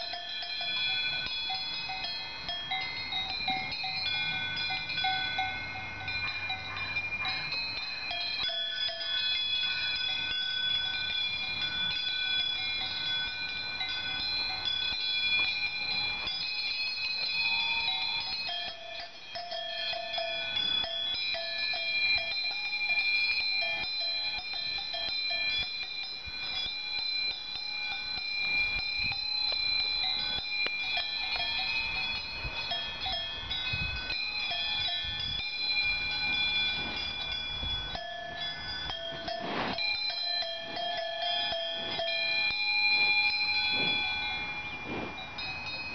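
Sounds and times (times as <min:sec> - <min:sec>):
cowbells clanking: 0:00.0 - 0:45.9.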